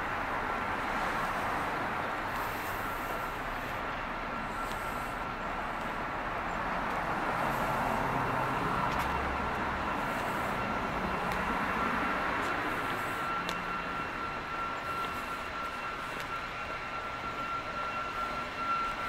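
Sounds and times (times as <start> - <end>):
faint high whine: 0.0 - 19.0
vehicle noise: 0.0 - 19.0.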